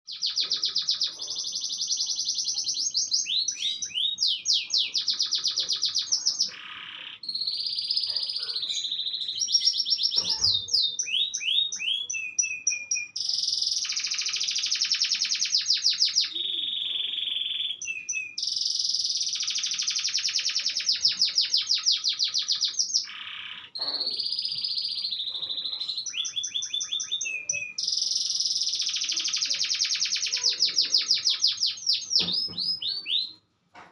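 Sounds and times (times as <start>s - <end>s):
canary singing trills: 0.1s - 33.5s.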